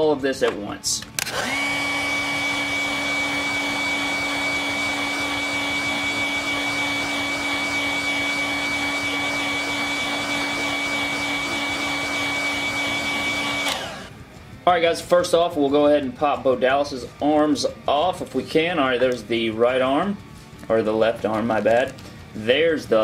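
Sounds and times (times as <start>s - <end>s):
hot-air blower whining: 1.0s - 23.0s.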